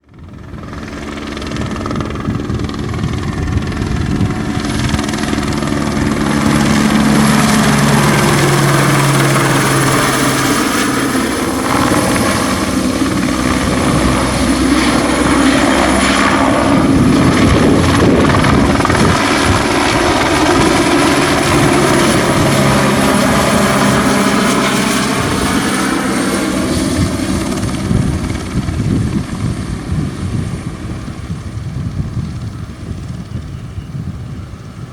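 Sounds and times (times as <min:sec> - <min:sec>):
helicopter flying past: 0:00.0 - 0:34.9.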